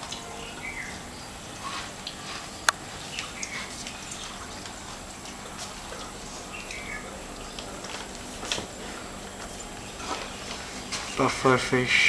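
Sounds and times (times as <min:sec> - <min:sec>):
small drips and ticks: 0:00.0 - 0:11.4
aquarium filter water noise: 0:00.0 - 0:12.0.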